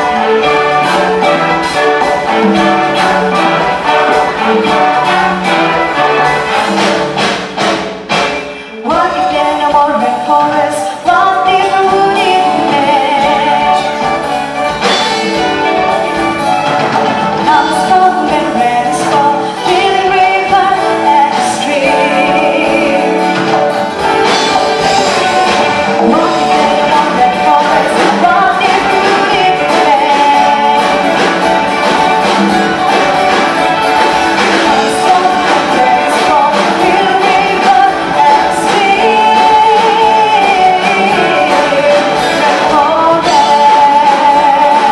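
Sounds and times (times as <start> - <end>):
song with instrumental accompaniment: 0.0 - 44.9.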